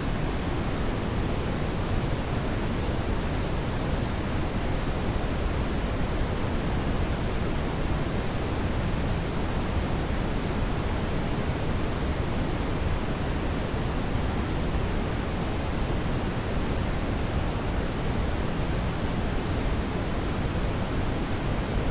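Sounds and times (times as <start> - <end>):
steady brown noise: 0.0 - 21.9.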